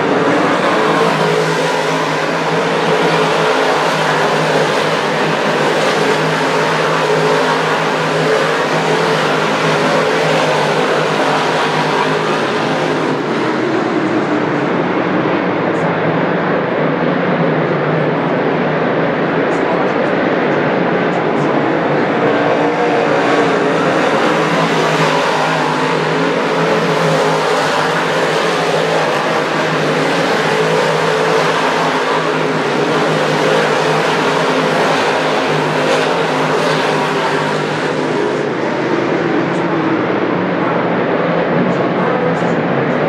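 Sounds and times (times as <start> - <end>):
race car engines droning: 0.0 - 43.0.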